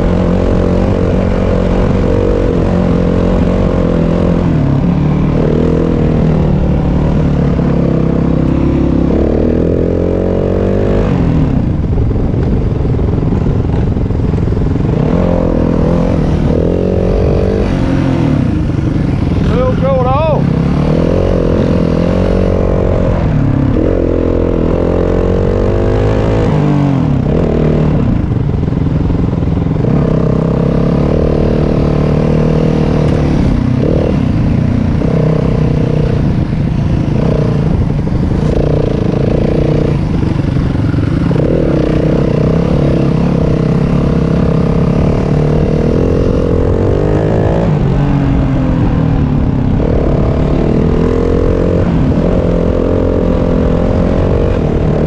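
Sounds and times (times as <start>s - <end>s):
dirt bike engine revving: 0.0s - 11.7s, 13.1s - 55.0s.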